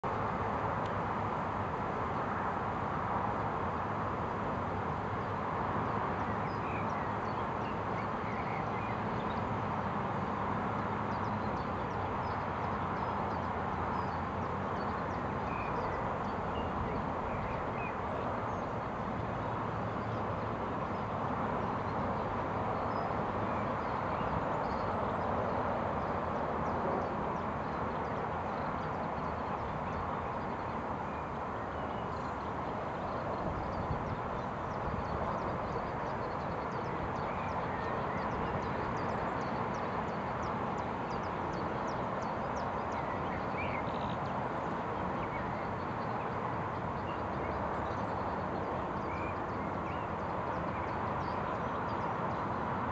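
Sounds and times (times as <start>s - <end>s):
outdoor background noise: 0.0s - 52.9s.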